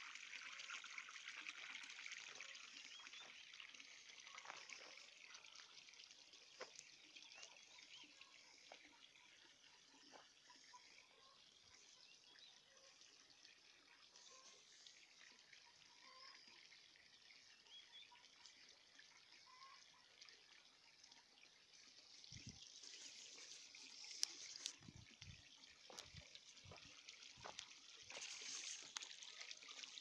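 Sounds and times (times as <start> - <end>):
trickle of running water: 0.0 - 30.0.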